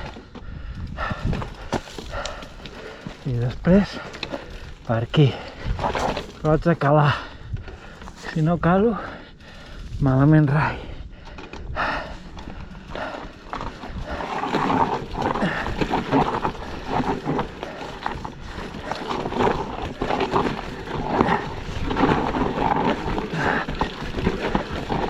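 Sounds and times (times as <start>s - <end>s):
tyres skidding over rock and dirt: 1.0s - 25.0s
bike clattering: 1.3s - 25.0s.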